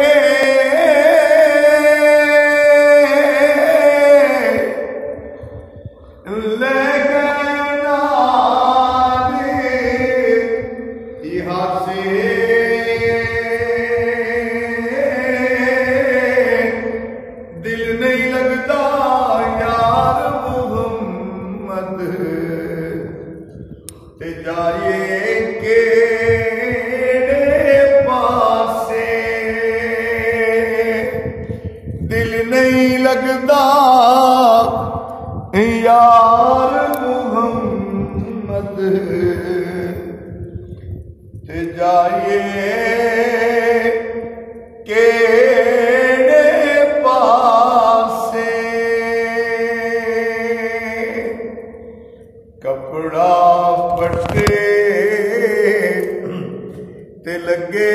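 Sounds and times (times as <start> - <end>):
man chanting unaccompanied: 0.0 - 57.9.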